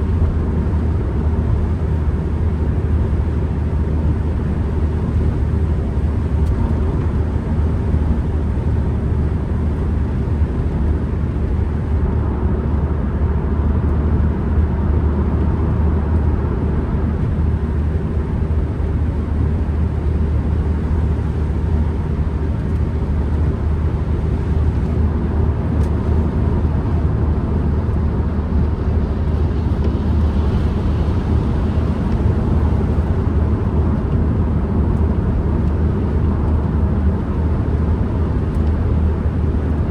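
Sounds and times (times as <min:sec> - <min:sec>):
van engine and road rumble: 0:00.0 - 0:39.9.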